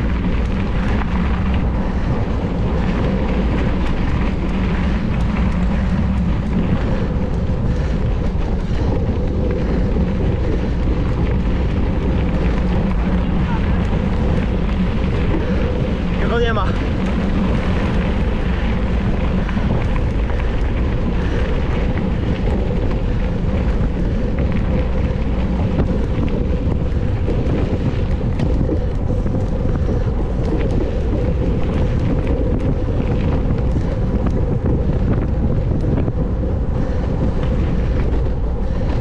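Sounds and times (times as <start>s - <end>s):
tyres rumbling on track: 0.0s - 39.0s
wind on microphone: 0.0s - 39.0s.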